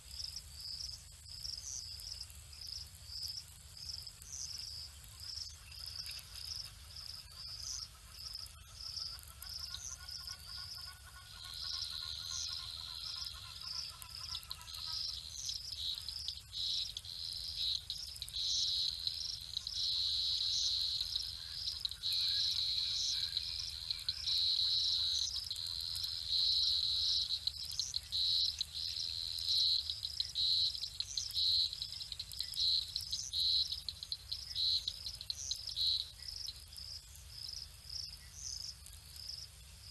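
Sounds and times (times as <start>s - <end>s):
crickets chirping: 0.0s - 39.9s
high insect trill: 0.1s - 39.9s.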